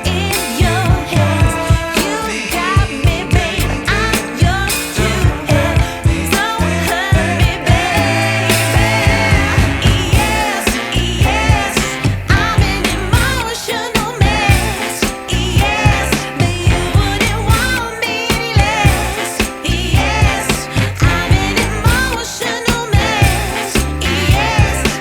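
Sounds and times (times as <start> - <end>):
pop music with singing: 0.0 - 25.0.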